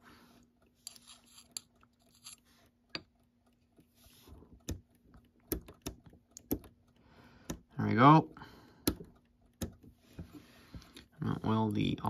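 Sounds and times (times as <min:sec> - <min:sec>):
fingers tapping clock parts: 0:00.6 - 0:12.0.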